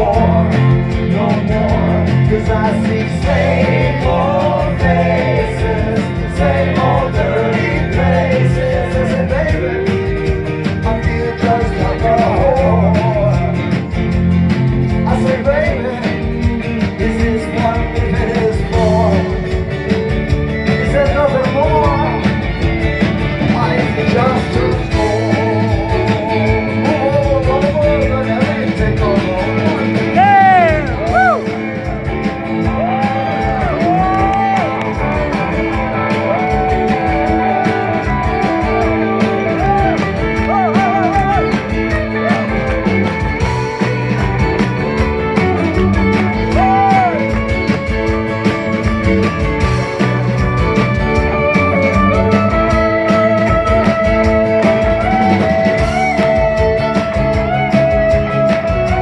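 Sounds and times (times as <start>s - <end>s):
drums: 0.0s - 59.0s
keyboard: 0.0s - 59.0s.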